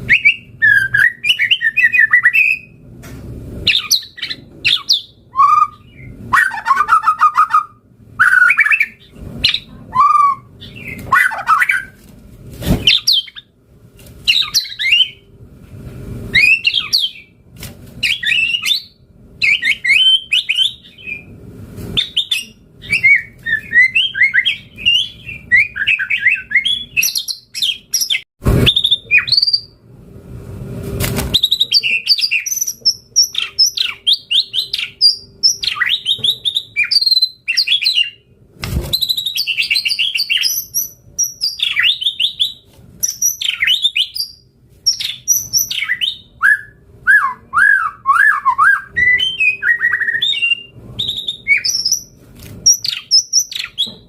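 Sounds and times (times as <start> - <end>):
bird singing whistled phrases: 0.1 - 2.8, 3.7 - 11.9, 16.3 - 17.3, 18.0 - 21.3, 22.0 - 29.8, 31.4 - 38.2, 39.0 - 53.9.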